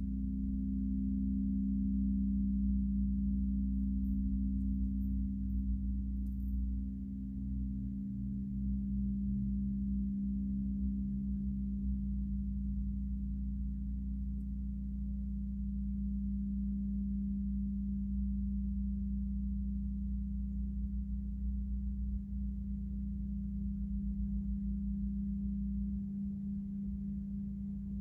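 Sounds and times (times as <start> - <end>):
low metal ringing tone: 0.0 - 28.0.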